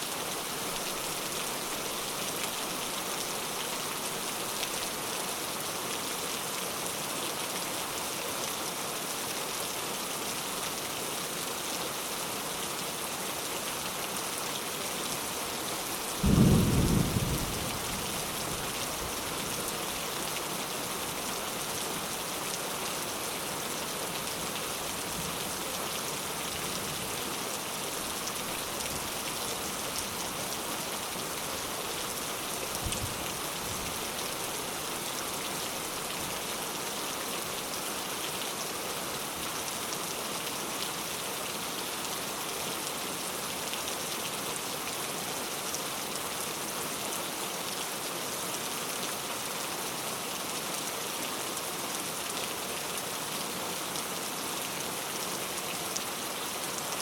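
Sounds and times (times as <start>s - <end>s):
rain pattering on surfaces: 0.1s - 57.0s.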